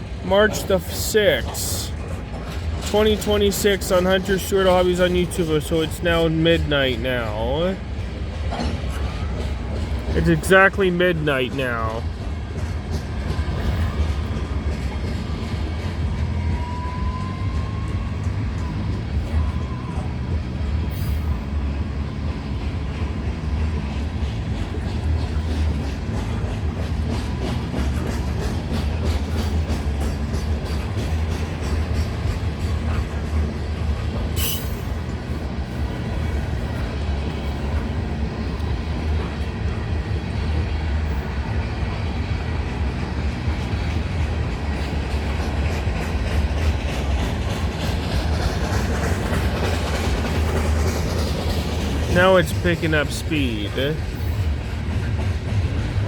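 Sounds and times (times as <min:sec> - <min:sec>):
freight train rumble: 0:00.0 - 0:56.0.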